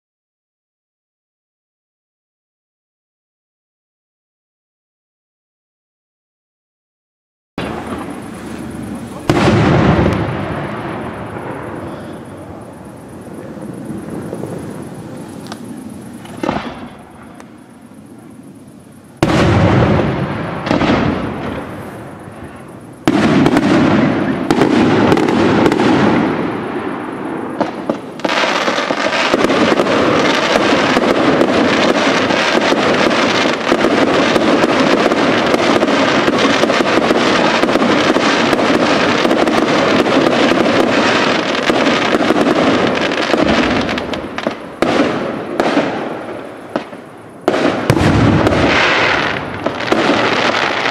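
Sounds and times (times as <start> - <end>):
fireworks bursting and crackling: 7.6 - 50.9.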